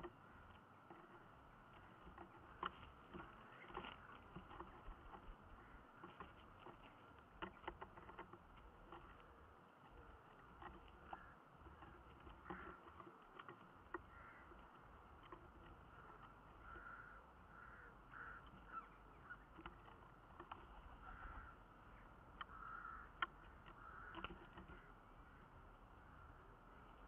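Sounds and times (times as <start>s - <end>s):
faint ticks and rustles of sticks: 0.0s - 27.0s
low steady hum: 0.0s - 27.0s.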